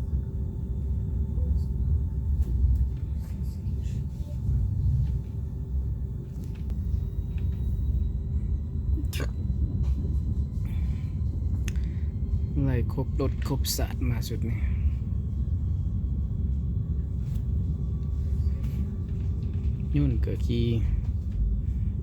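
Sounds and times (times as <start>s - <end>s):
faint steady hum: 0.0s - 22.0s
train carriage rumble: 0.0s - 22.0s.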